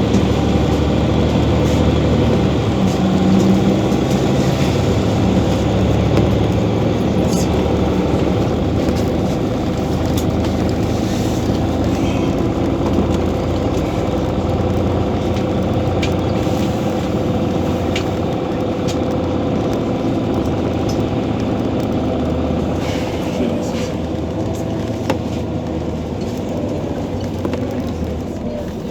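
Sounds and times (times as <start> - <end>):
bus engine hum: 0.0 - 28.9.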